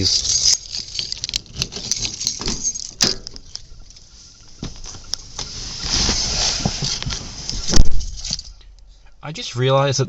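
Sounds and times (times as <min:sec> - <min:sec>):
rustling: 0:00.0 - 0:09.2.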